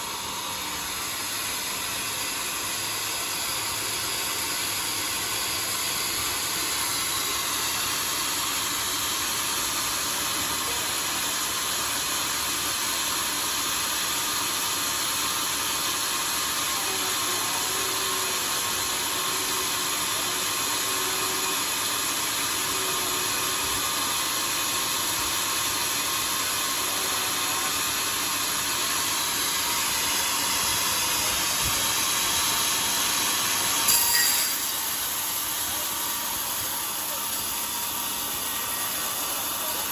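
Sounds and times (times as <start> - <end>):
saw cutting through a log: 0.0 - 39.9.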